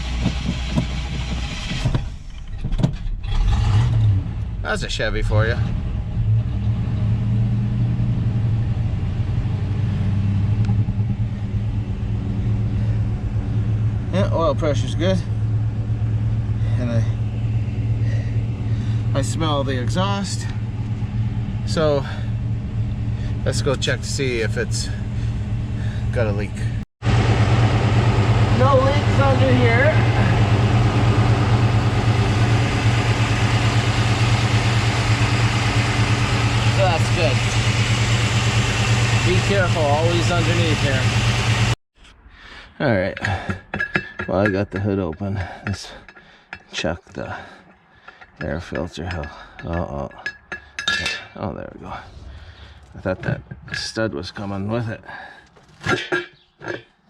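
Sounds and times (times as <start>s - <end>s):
engine idling: 0.0s - 2.6s, 9.7s - 41.8s, 43.2s - 56.8s.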